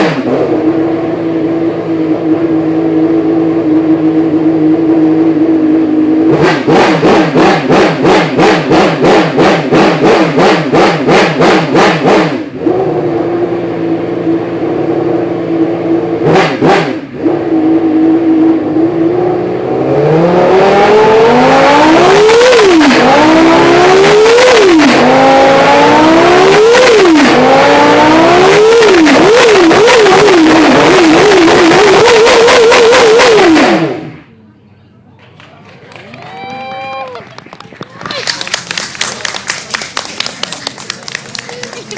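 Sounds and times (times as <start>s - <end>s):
racing engine revving: 0.0s - 34.3s.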